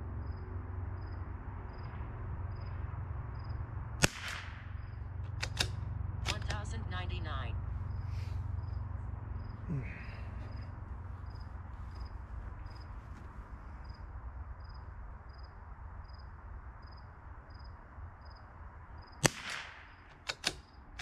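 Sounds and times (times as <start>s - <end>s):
cricket chirping: 0.0s - 21.0s
low background rumble: 0.0s - 21.0s.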